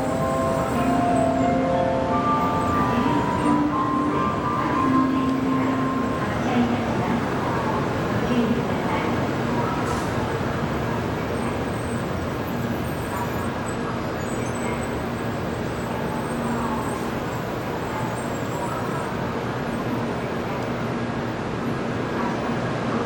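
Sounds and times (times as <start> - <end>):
train rolling to a stop: 0.0 - 23.0.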